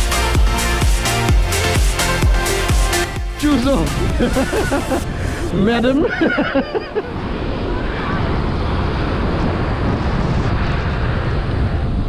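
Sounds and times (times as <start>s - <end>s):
wind buffeting microphone: 1.5s - 12.0s.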